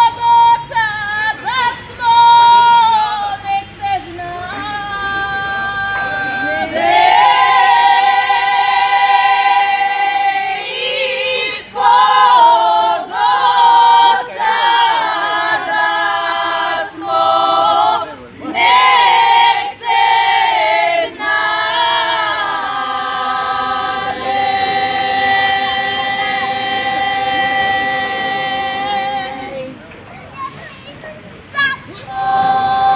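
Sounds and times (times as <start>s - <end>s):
women singing in harmony: 0.0s - 29.8s, 32.1s - 32.9s.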